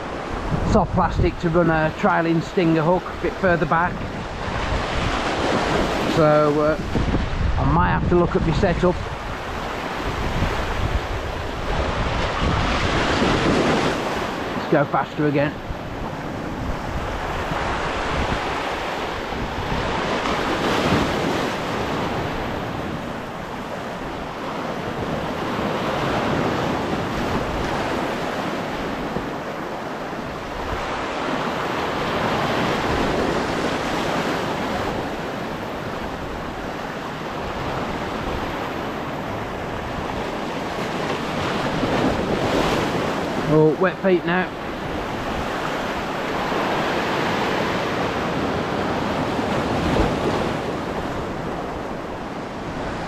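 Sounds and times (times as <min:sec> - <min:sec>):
surf washing over rocks: 0:00.0 - 0:53.0.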